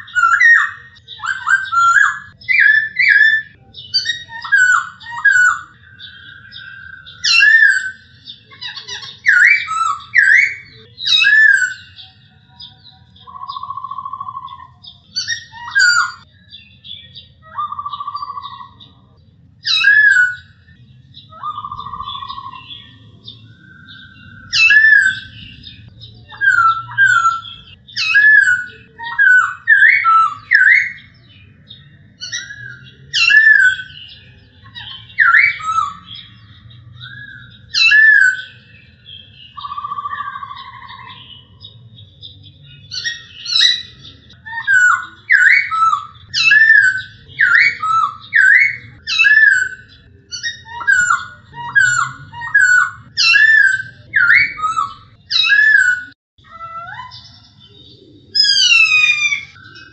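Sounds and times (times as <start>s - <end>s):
bird whistling song: 0.0s - 59.9s.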